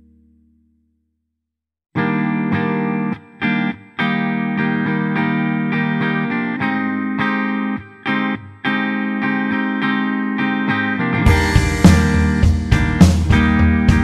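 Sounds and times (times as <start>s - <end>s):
guitar music: 2.0s - 14.0s.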